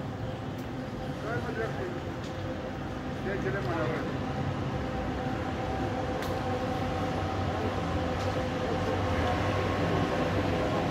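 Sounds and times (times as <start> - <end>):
tram humming: 0.0 - 10.9.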